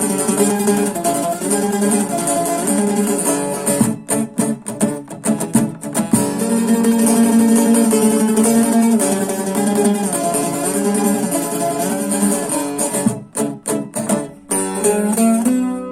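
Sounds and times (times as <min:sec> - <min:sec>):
plucked string instrument music: 0:00.0 - 0:15.9.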